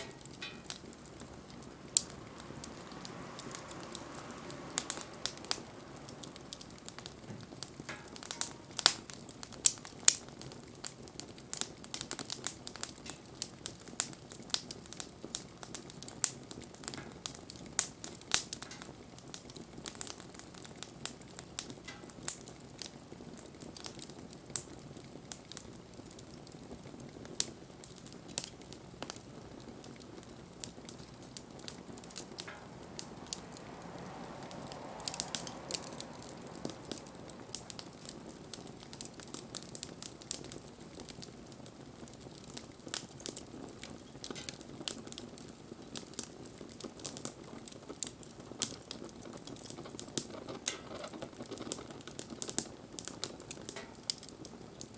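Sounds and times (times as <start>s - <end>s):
rush of flame: 0.0s - 24.2s, 26.7s - 54.3s
bonfire crackling and popping: 0.0s - 54.9s.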